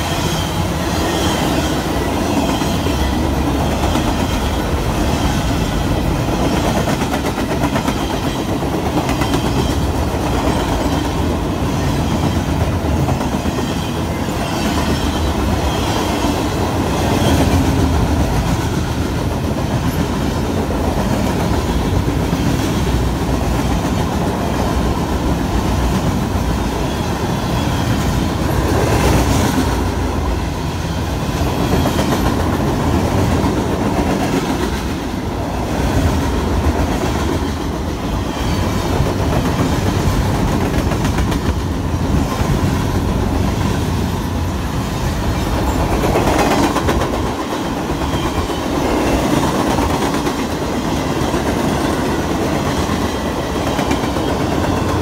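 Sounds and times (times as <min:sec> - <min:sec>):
clickety-clack over rail joints: 0:00.0 - 0:55.0
train wheels rumbling on rails: 0:00.0 - 0:55.0.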